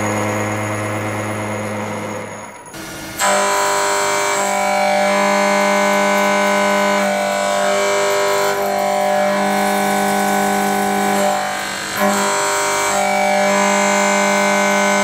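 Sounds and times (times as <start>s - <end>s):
milling cutter machining whine: 0.0s - 15.0s.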